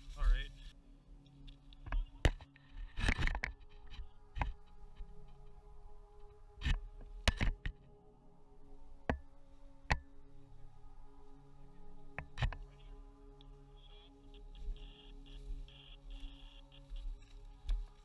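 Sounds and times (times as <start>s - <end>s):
ambient background music: 0.0s - 18.0s.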